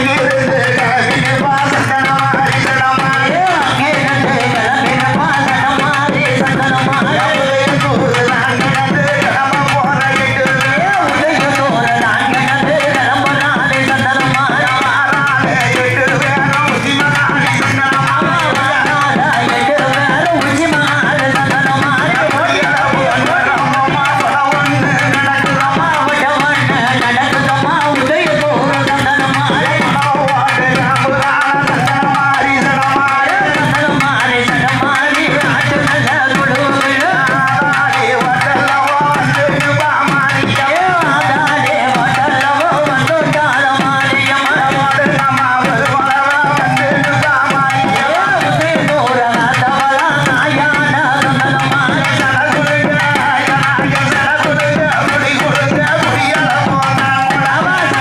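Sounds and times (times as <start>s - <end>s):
hand drum beat: 0.0s - 58.0s
woman singing through loudspeaker: 0.0s - 58.0s.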